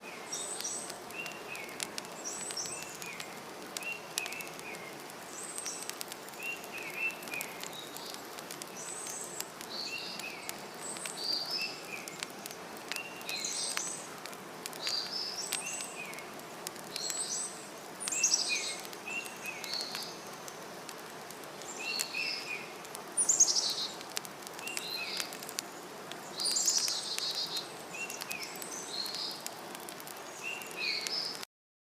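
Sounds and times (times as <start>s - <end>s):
steady background hiss: 0.0s - 31.4s
campfire crackling: 0.0s - 31.5s.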